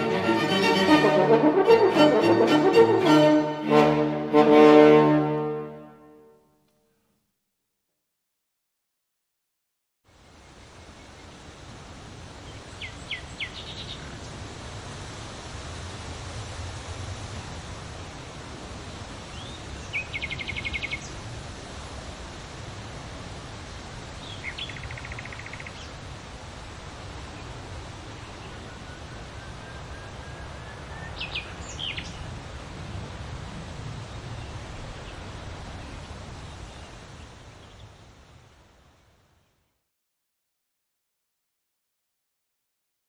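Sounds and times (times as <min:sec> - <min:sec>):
steady background hiss: 0:00.0 - 0:05.9, 0:10.1 - 0:39.8.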